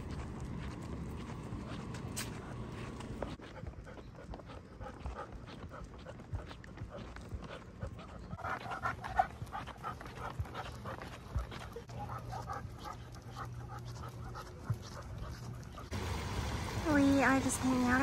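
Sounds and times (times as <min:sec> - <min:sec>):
small dogs panting: 0:00.0 - 0:16.0.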